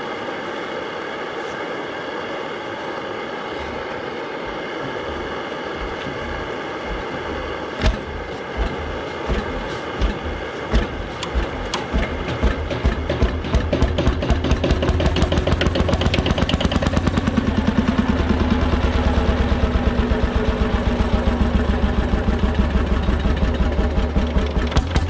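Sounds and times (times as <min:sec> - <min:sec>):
engine hiss and hum: 0:00.0 - 0:25.0
engine firing thumps: 0:04.8 - 0:25.0.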